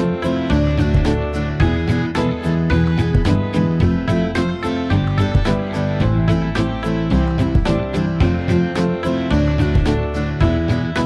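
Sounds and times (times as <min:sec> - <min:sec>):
instrumental music with plucked notes: 0:00.0 - 0:11.0.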